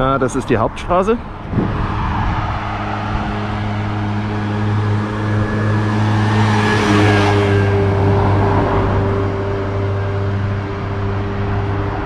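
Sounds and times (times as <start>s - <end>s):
traffic engine hum: 0.0s - 12.0s
car passing close by: 1.2s - 12.0s.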